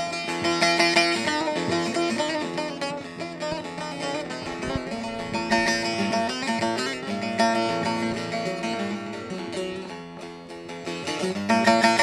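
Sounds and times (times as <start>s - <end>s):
long-necked lute strummed briskly: 0.0s - 12.0s.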